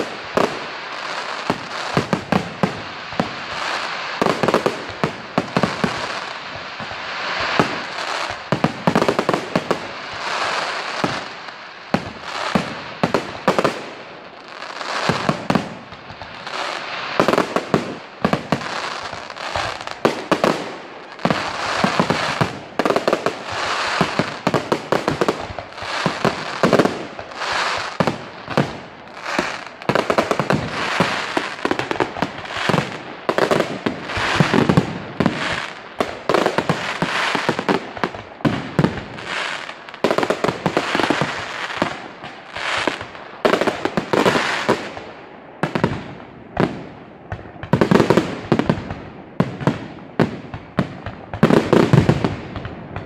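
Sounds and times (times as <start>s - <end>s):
fireworks bursting: 0.0s - 53.0s
fireworks crackling: 0.0s - 53.0s.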